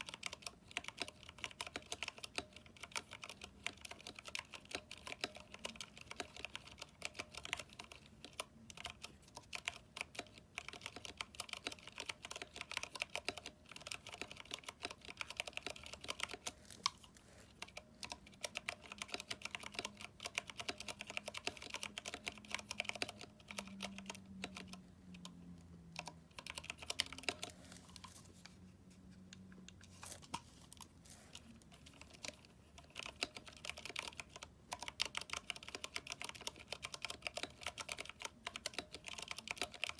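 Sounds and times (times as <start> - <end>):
fast typing on mechanical keyboard: 0.0 - 28.2, 31.3 - 39.9.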